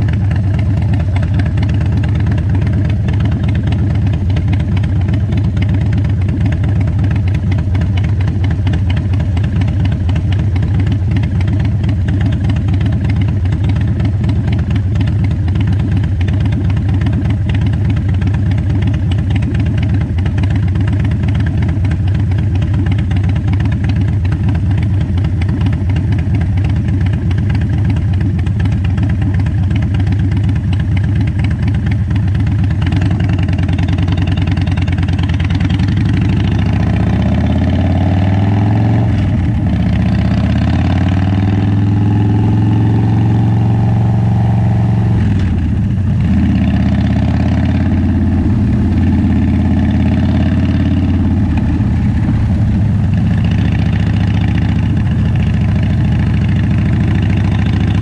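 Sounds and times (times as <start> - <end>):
motorcycle accelerating through gears: 0.0 - 58.0
motorcycle engine idling: 0.0 - 58.0.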